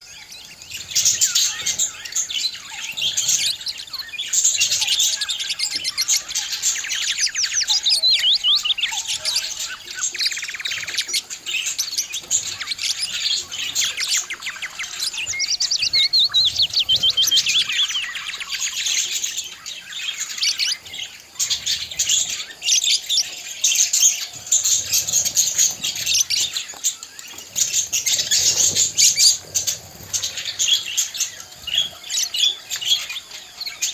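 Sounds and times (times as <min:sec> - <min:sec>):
budgerigars chirping and warbling: 0:00.0 - 0:33.9.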